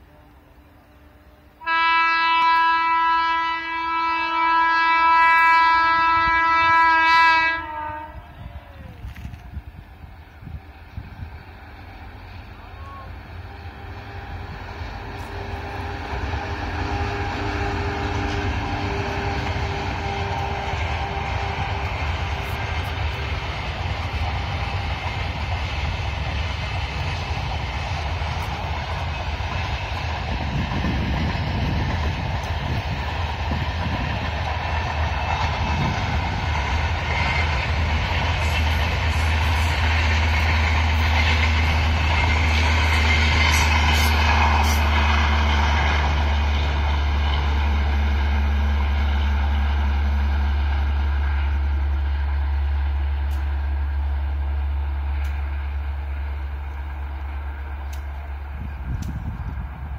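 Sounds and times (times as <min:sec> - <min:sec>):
passenger train rolling past: 0:00.0 - 0:59.9.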